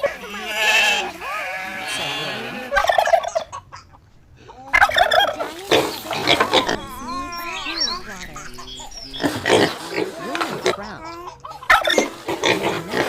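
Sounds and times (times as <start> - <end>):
turkey gobbling: 0.0 - 13.0.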